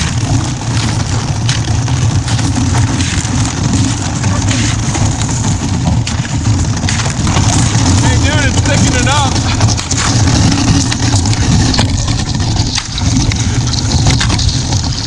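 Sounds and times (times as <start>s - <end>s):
ice cracking: 0.0s - 15.0s
kayak hull grinding through ice: 0.0s - 15.0s.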